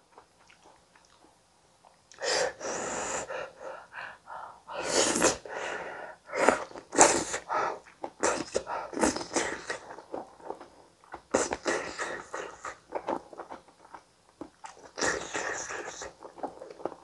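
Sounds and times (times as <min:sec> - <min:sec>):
slurping and chewing: 0:00.0 - 0:03.0, 0:06.3 - 0:17.0.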